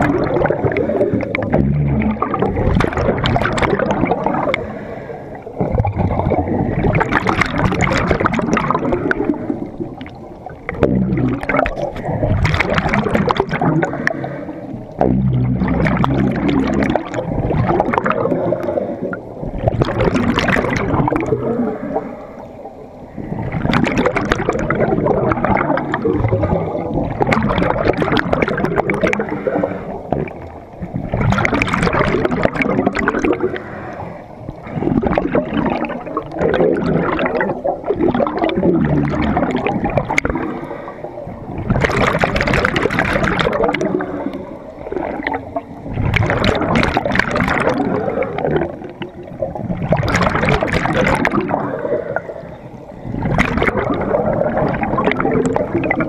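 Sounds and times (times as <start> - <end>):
low underwater gurgling: 0.0 - 56.0
underwater exhaled bubbles: 0.0 - 56.0.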